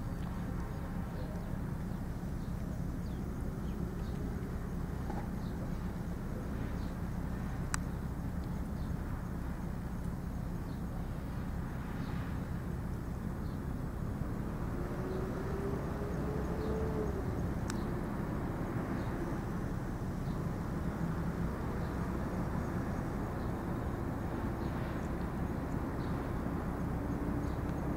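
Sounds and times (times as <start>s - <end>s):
low outdoor rumble: 0.0s - 27.9s.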